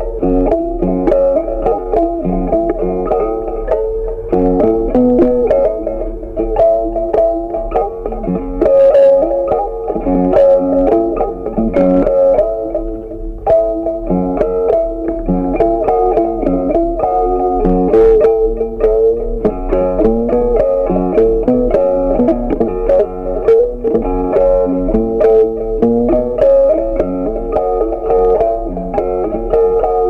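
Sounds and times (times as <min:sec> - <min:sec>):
plucked guitar: 0:00.0 - 0:30.0.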